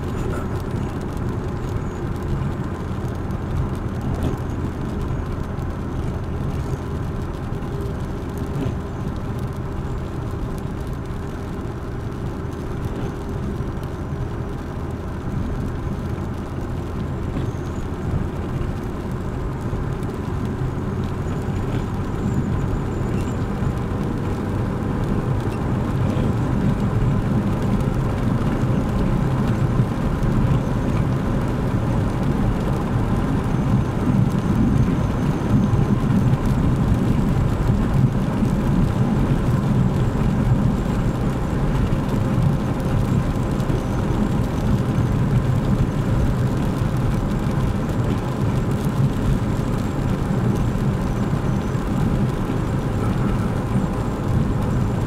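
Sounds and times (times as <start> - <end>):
car engine: 0.0 - 55.0
road noise: 0.0 - 55.0.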